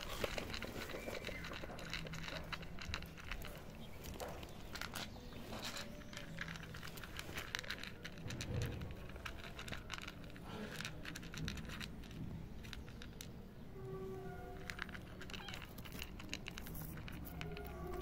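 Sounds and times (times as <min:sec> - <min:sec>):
cat crunching dry kibble: 0:00.0 - 0:13.3, 0:14.5 - 0:18.0.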